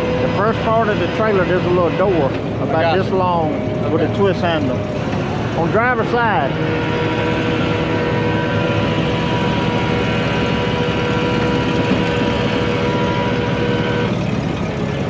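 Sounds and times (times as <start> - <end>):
heavy truck engine rumbling: 0.0 - 15.0
steady whine: 0.0 - 15.0.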